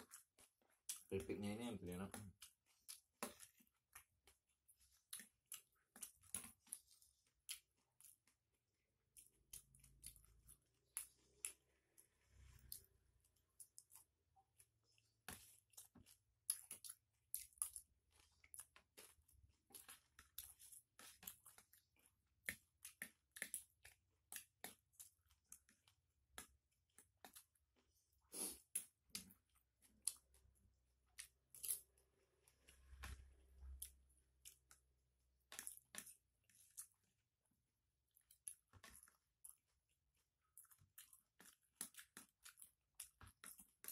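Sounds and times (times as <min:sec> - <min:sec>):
chewing with crunches: 0:00.0 - 0:43.9.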